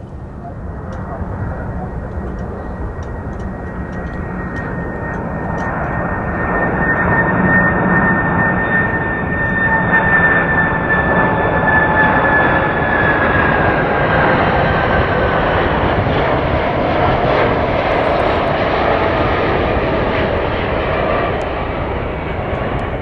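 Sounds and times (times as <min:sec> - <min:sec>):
jet engines roaring with whine: 0:00.0 - 0:23.0.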